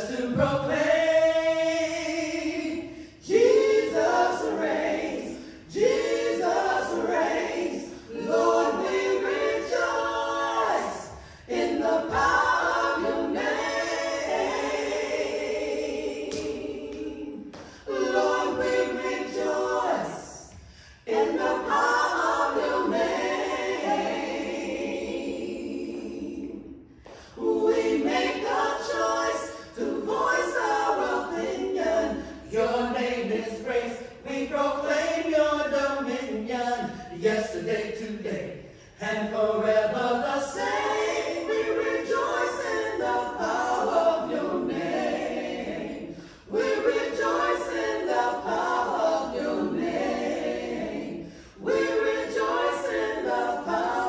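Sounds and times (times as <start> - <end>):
women singing a cappella: 0.0 - 54.0.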